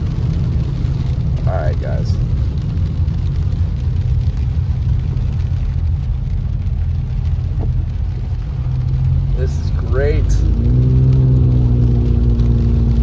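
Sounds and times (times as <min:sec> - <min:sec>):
engine and tyres rumbling: 0:00.0 - 0:13.0
tyres hissing on wet road: 0:00.0 - 0:13.0.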